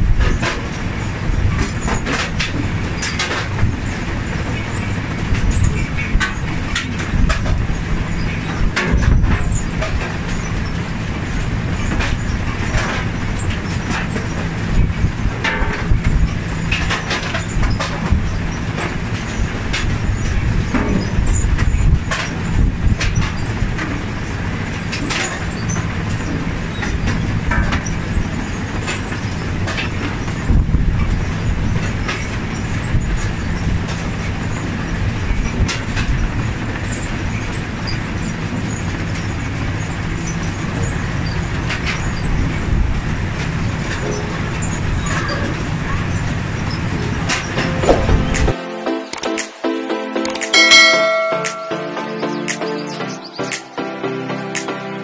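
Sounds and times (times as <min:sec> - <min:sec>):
harvester machine drone: 0:00.0 - 0:55.0.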